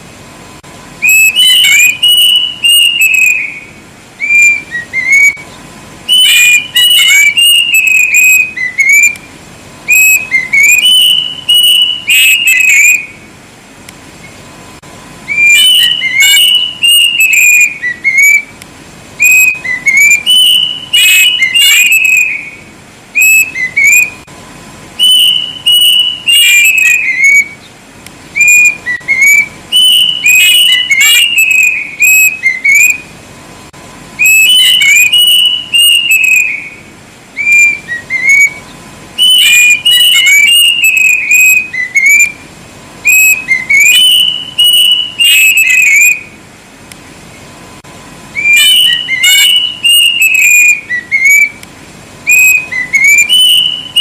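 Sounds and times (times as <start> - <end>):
cuckoo singing: 1.0 - 13.4, 15.2 - 24.3, 25.0 - 33.2, 34.2 - 46.4, 48.3 - 54.0.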